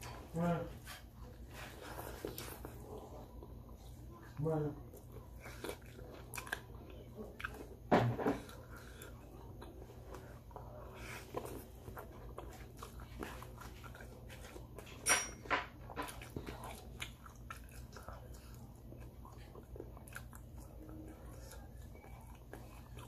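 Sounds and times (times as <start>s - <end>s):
person chewing sticky food: 0.0s - 15.0s, 15.7s - 23.0s.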